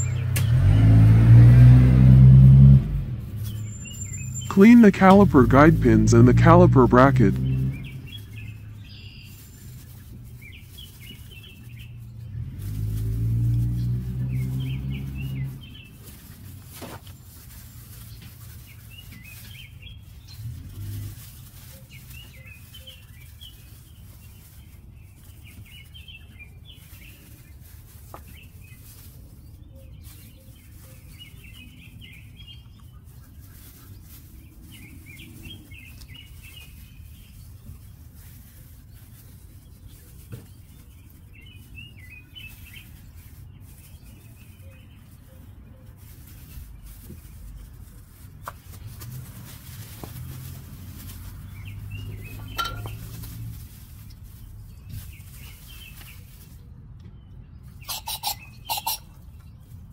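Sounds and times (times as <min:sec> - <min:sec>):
birds chirping: 0:00.0 - 0:00.8, 0:02.9 - 0:59.9.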